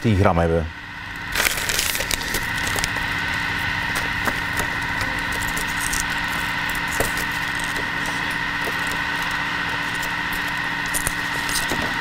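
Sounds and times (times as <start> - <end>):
kitchen machine hum and whine: 0.0 - 12.0.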